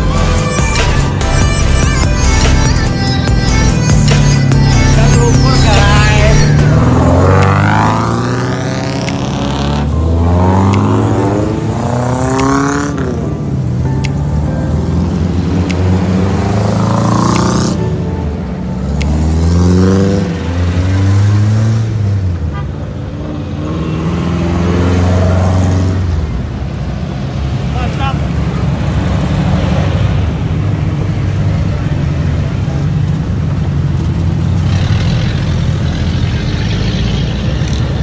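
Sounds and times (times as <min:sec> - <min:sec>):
off-road vehicles accelerating past: 0:03.8 - 0:38.0.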